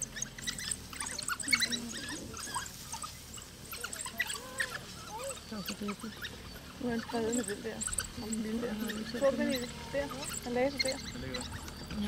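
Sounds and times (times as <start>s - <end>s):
wild dogs twittering chirps: 0.0s - 12.0s.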